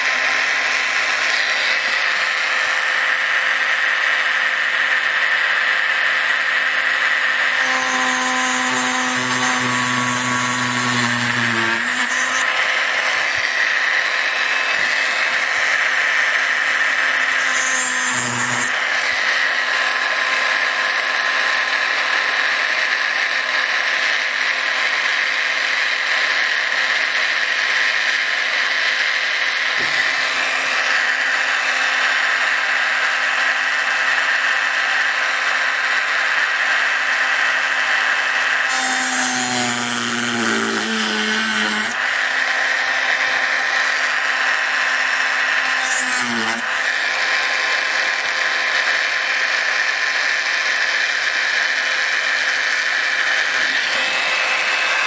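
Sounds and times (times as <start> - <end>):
rotary tool high whine: 0.0 - 55.0.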